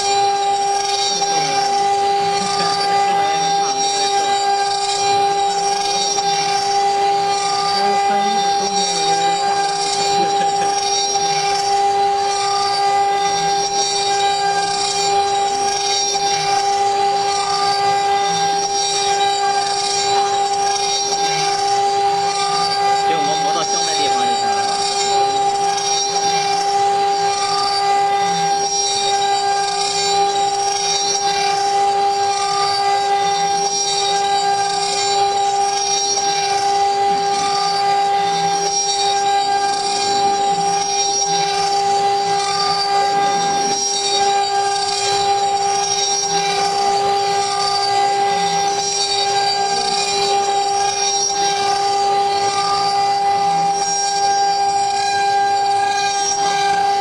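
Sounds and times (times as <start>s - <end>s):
bit cutting wood hiss: 0.0s - 56.9s
router spindle whine: 0.0s - 57.0s.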